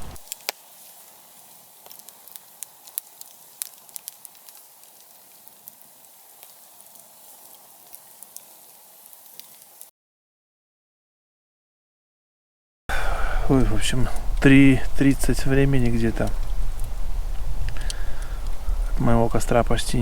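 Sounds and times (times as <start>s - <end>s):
campfire crackles and pops: 0.0s - 9.9s, 12.9s - 20.0s
faint steady hiss: 0.0s - 9.9s, 12.9s - 20.0s.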